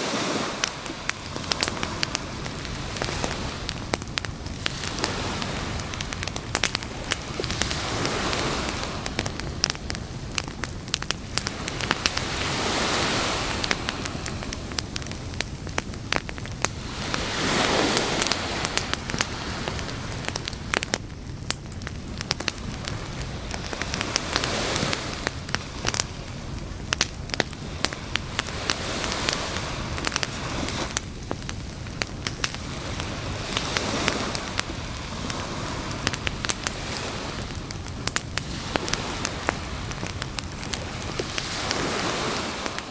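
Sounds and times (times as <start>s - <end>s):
campfire crackling and popping: 0.0s - 42.9s
waves rushing: 0.0s - 42.9s.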